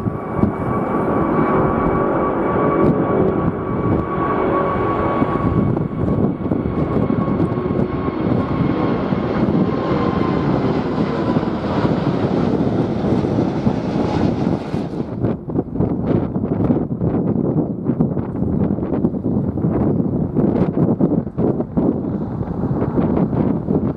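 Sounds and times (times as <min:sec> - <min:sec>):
jet airliner passing: 0:00.0 - 0:23.9
wind buffeting microphone: 0:00.0 - 0:23.9.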